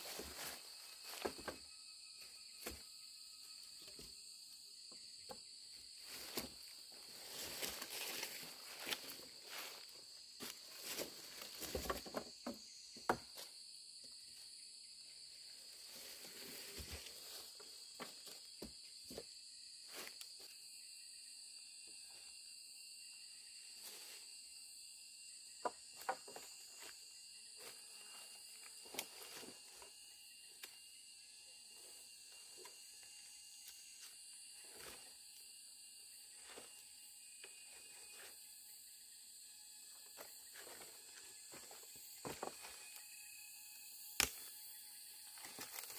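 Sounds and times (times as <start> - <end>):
insect chorus: 0.0 - 45.9.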